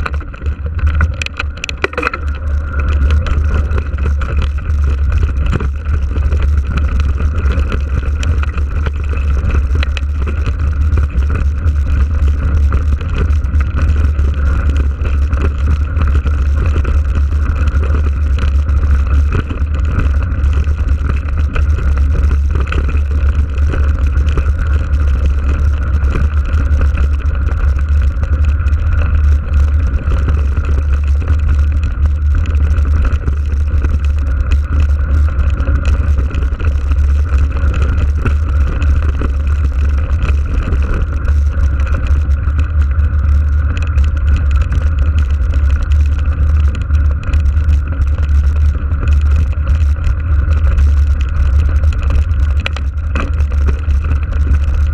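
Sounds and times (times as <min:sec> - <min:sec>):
bike rolling over gravel: 0:00.0 - 0:54.9
wind rumble: 0:00.0 - 0:54.9.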